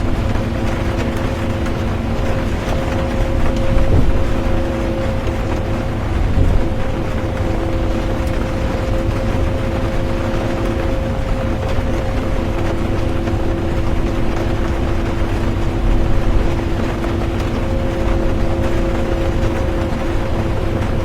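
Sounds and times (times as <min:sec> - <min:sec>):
bus engine and road rumble: 0:00.0 - 0:21.0
constant droning hum: 0:00.0 - 0:21.0.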